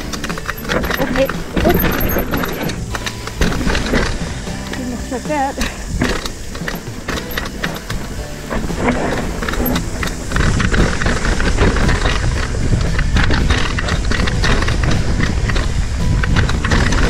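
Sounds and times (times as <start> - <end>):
bike rattling over bumps: 0.0 - 17.0
tyres rumbling over dirt: 0.0 - 17.0.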